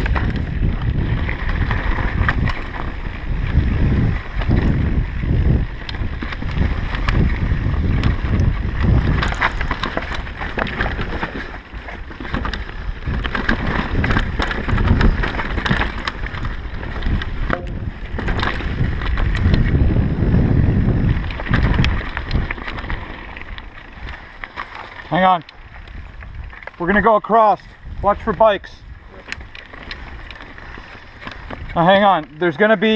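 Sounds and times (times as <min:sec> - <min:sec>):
bike rattles and clicks: 0:00.0 - 0:32.9
wind buffeting microphone: 0:00.0 - 0:32.9.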